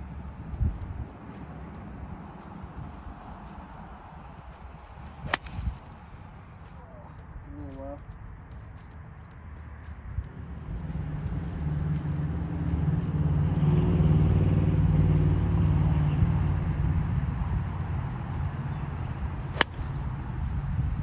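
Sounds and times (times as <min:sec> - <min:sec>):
passing vehicle engine hum: 0:00.0 - 0:21.0.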